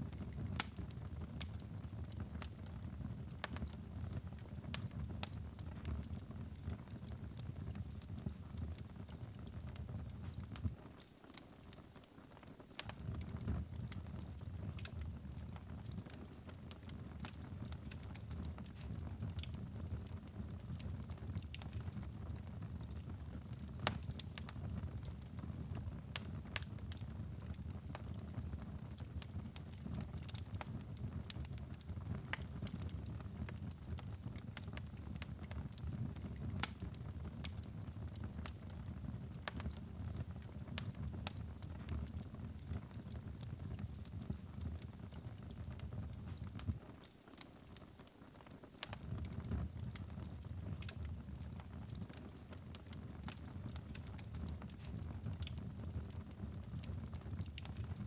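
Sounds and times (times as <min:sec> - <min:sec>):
low rumble of flames: 0:00.0 - 0:10.8, 0:12.8 - 0:46.8, 0:48.8 - 0:58.0
wood fire crackling and popping: 0:00.0 - 0:58.0.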